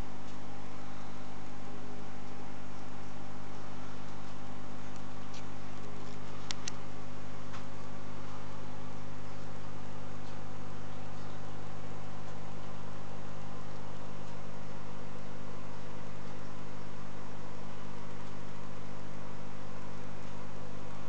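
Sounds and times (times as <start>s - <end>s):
aquarium pump humming: 0.0s - 21.0s.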